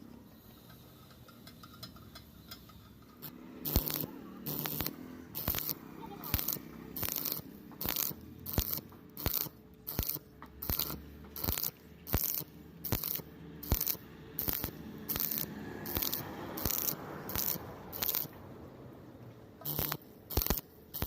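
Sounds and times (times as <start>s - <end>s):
faint crackle: 0.6s - 18.4s, 19.6s - 21.0s
welding arc bursts on metal: 2.4s - 18.4s, 19.6s - 21.0s.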